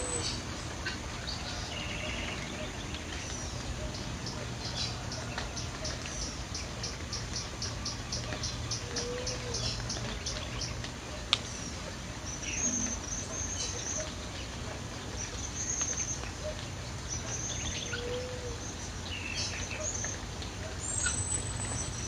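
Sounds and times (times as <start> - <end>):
birds chirping and trilling: 0.0 - 10.8, 11.4 - 20.2.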